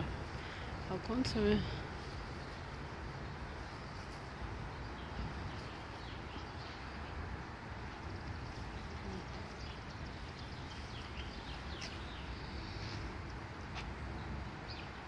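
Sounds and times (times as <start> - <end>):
street rumble: 0.0 - 15.0.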